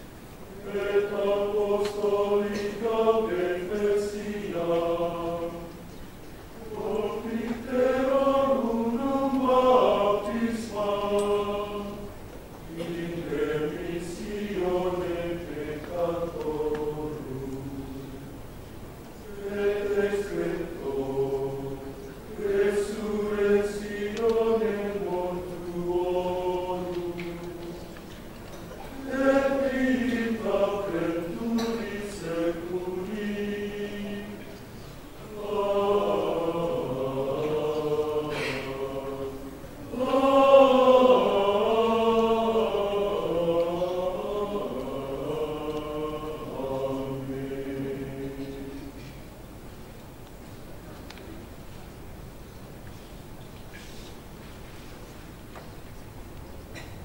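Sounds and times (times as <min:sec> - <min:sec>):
men's choir chanting: 0:00.5 - 0:05.9, 0:06.6 - 0:18.3, 0:19.2 - 0:49.0.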